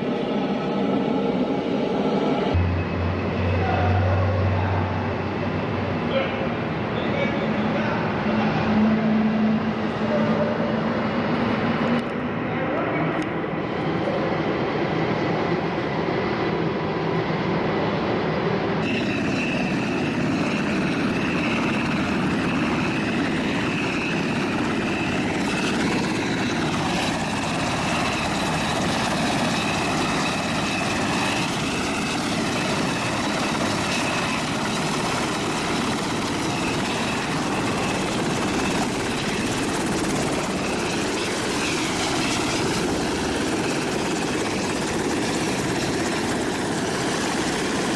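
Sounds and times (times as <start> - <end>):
helicopter engine and rotor: 0.0 - 47.9
turbine whine: 0.0 - 47.9.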